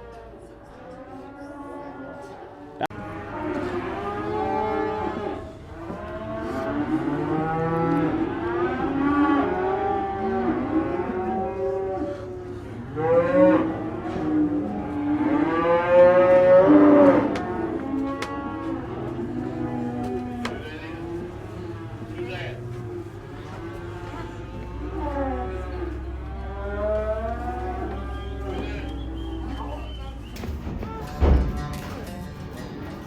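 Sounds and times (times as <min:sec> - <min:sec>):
cattle mooing: 0:00.7 - 0:31.4.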